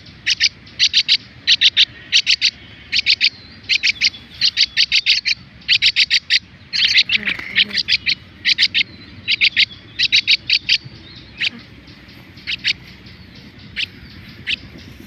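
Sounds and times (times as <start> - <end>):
bird chicks high-pitched calls: 0.0 - 15.0.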